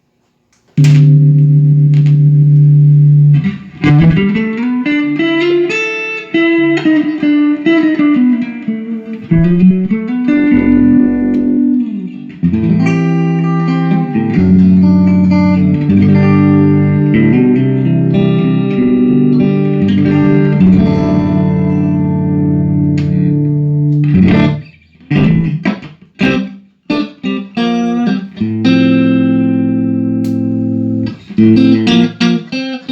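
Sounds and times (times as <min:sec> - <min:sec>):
electric guitar playing: 0:00.8 - 0:32.9.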